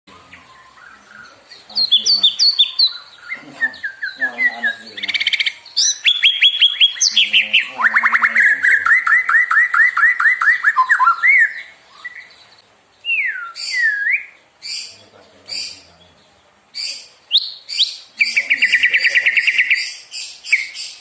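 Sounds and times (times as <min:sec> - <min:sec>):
songbird singing whistles: 0:00.2 - 0:15.9, 0:16.8 - 0:21.0.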